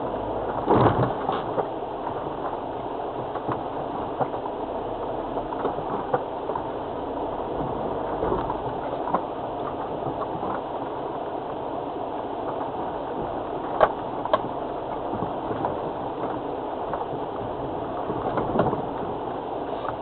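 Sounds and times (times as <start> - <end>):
vehicle driving on rough lane: 0.0 - 20.0.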